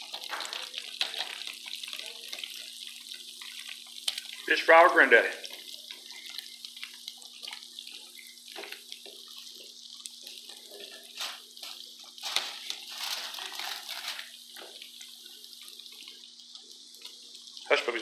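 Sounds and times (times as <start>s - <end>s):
food deep-frying in hot oil: 0.0s - 18.0s.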